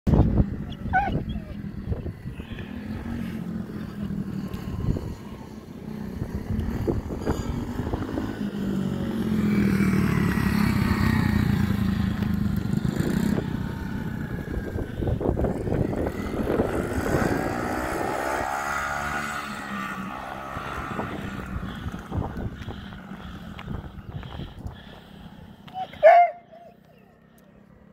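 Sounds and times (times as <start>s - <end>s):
dirt bike engine running: 0.1s - 25.6s.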